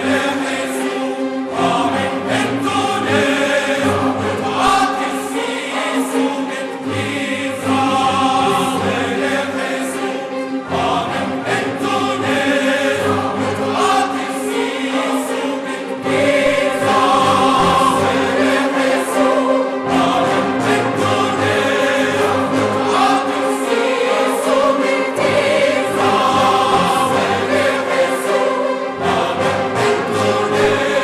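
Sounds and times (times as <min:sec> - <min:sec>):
choir singing held chords: 0:00.0 - 0:31.0
symphony orchestra: 0:00.0 - 0:31.0.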